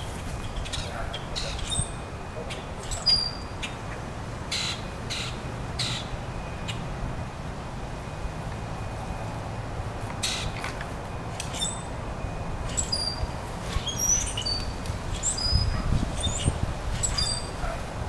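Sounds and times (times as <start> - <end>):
songbirds chirping: 0.0 - 6.9, 8.4 - 17.8.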